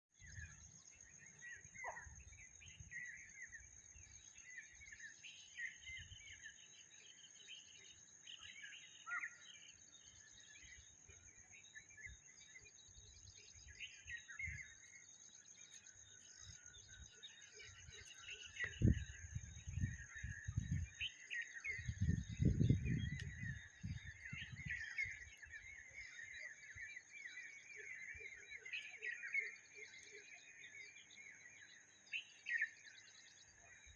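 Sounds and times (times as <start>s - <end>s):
small birds chirping and twittering: 0.1s - 33.9s.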